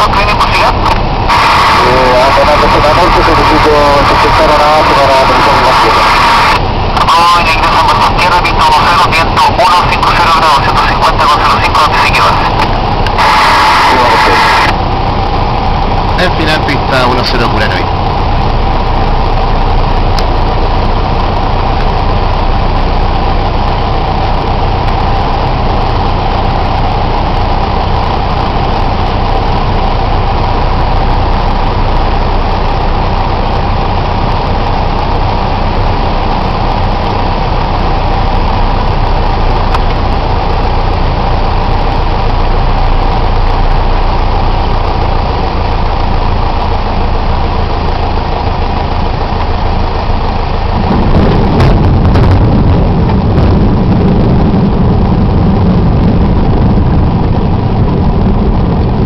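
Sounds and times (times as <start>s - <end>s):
airplane engine and propeller droning: 0.0s - 59.0s.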